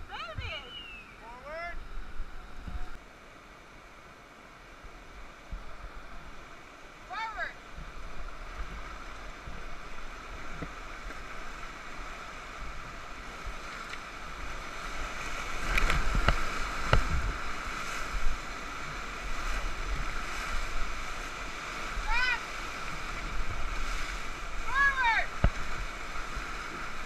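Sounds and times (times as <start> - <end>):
whitewater rushing: 0.0 - 27.0.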